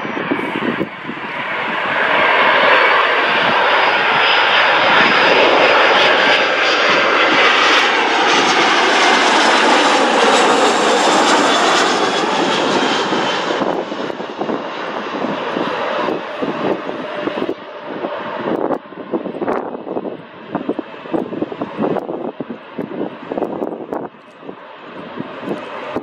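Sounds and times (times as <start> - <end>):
high jet whine: 0.0 - 26.0
jet engine roar overhead: 0.0 - 26.0.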